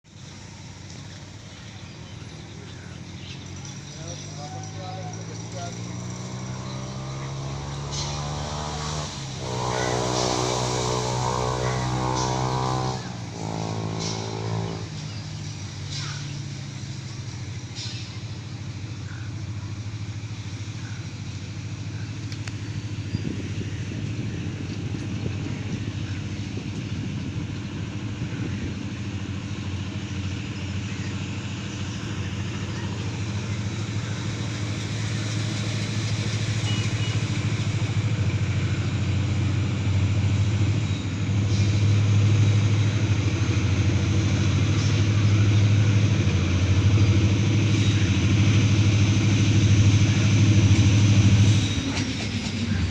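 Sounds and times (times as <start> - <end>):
diesel locomotive engine drone: 0.0 - 52.9.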